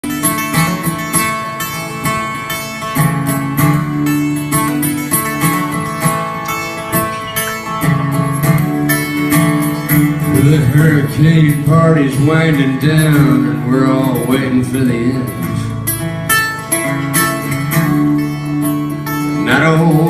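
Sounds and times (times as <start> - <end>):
guitar strumming: 0.0 - 20.0.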